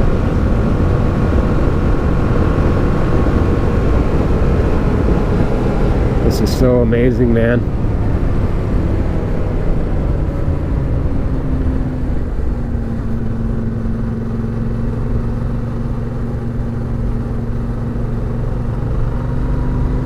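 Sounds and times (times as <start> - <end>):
steady whine: 0.0 - 19.6
motorcycle engine running: 0.0 - 20.0
wind and road noise: 0.0 - 20.0.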